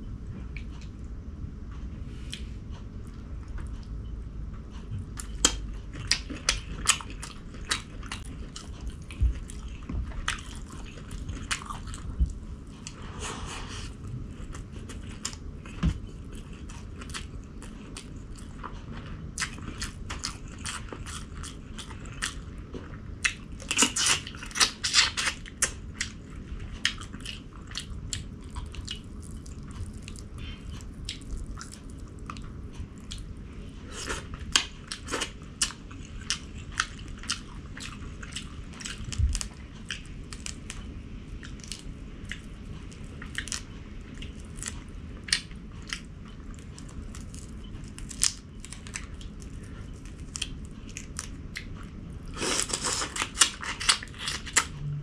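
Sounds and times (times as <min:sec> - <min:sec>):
person chewing food: 0:00.2 - 0:55.0.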